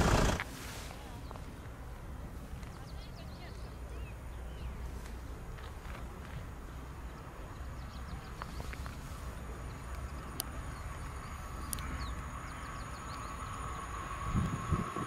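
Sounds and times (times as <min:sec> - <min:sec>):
small birds chirping: 0:00.0 - 0:14.7
diesel train humming: 0:00.0 - 0:15.0
low steady rumble: 0:00.0 - 0:15.0.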